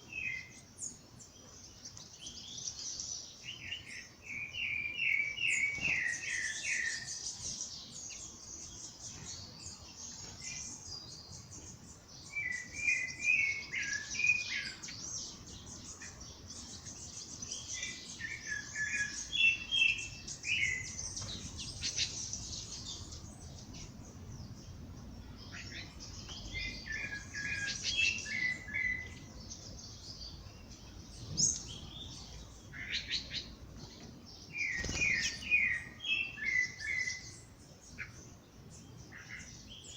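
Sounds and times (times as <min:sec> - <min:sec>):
songbirds twittering and chirping: 0:00.0 - 0:39.9.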